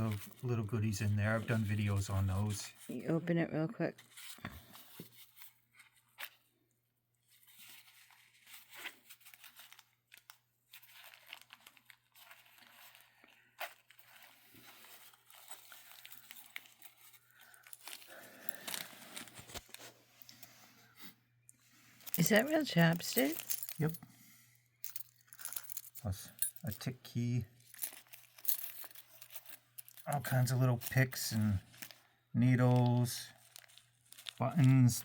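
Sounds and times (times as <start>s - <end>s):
crinkling and rustling: 0.0s - 3.2s, 3.8s - 6.6s, 7.2s - 24.1s, 24.8s - 35.0s.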